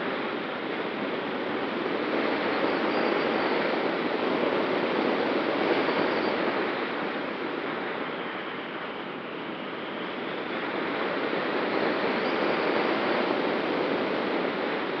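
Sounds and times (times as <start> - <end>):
wind rushing over camera: 0.0 - 15.0.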